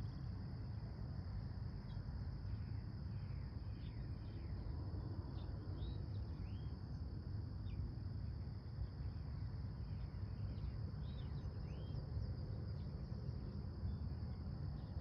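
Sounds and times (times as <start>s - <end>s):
insects trilling: 0.0s - 15.0s
low steady rumble: 0.0s - 15.0s.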